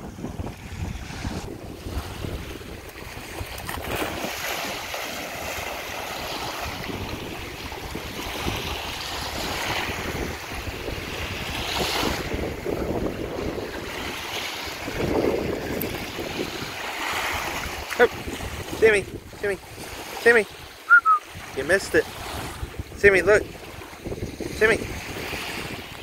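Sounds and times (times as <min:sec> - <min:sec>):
small waves breaking on shore: 0:00.0 - 0:26.0
wind rumbling on microphone: 0:00.0 - 0:26.0.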